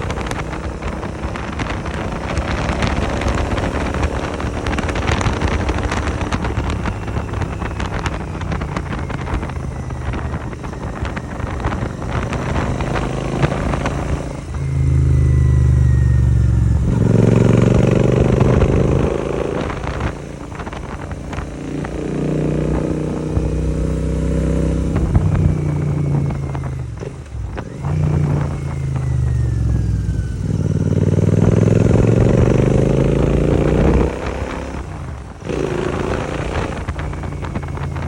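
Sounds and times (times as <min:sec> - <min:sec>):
motorcycle engine exhaust: 0:00.0 - 0:38.0.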